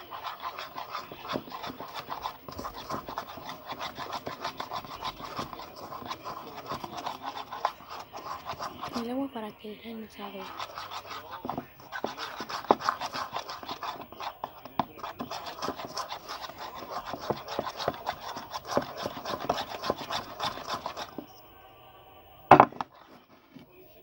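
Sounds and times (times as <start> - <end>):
spoon scraping a bowl: 0.0 - 21.4, 22.5 - 23.7.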